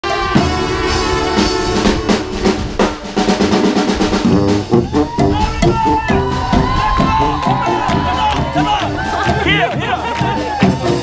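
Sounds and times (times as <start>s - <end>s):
brass band playing: 0.0s - 11.0s
drum hits: 0.0s - 11.0s.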